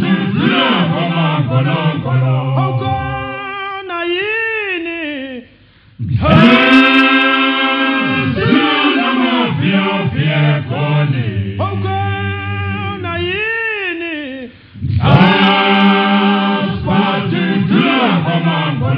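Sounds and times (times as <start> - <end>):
male choir singing a cappella: 0.0 - 3.9, 6.0 - 13.5, 14.4 - 18.9.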